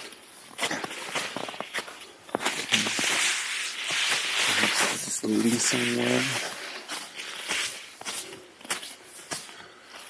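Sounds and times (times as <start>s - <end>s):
branches rustling against clothing: 0.0s - 10.0s
footsteps crunching on frozen ground: 0.0s - 10.0s.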